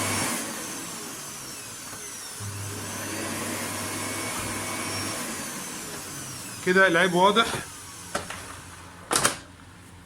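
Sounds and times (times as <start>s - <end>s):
vacuum cleaner motor: 0.0s - 9.0s.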